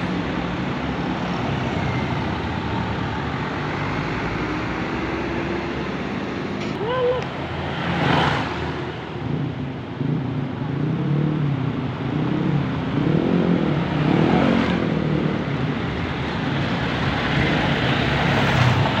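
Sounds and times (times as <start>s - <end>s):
dump truck diesel engines: 0.0s - 19.0s.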